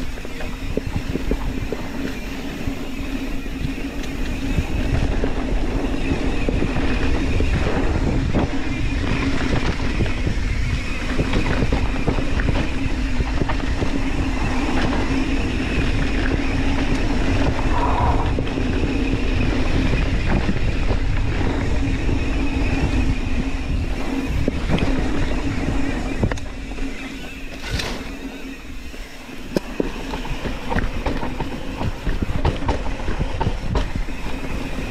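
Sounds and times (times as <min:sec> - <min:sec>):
bike rattling over bumps: 0:00.0 - 0:34.9
bike tyres rumbling on dirt: 0:00.0 - 0:34.9.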